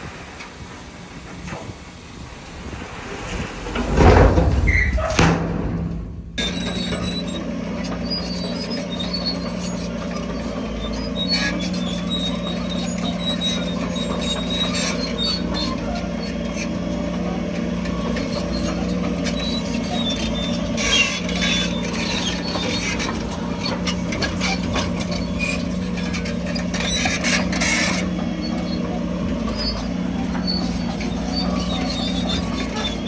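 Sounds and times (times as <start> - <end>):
heavy diesel machinery running: 0.0 - 33.0
high squeaks and clicks: 4.6 - 5.3, 5.9 - 33.0.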